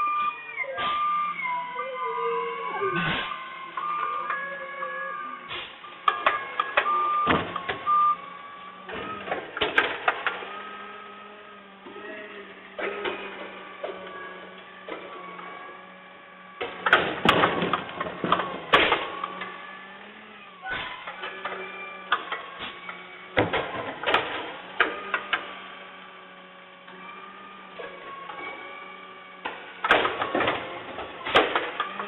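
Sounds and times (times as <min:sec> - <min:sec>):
garbage truck engine hum: 0:00.0 - 0:32.0
hydraulic whine: 0:00.0 - 0:32.0.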